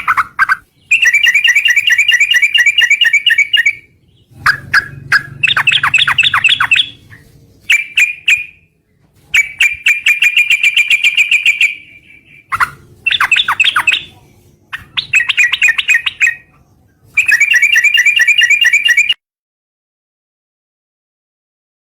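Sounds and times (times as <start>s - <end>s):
bird chattering calls: 0.0s - 8.6s, 9.3s - 16.5s, 17.2s - 19.2s.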